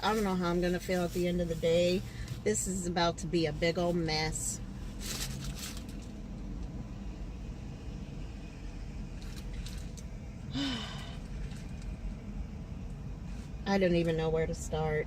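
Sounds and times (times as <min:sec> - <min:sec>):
vehicles idling rumble: 0:00.0 - 0:15.0.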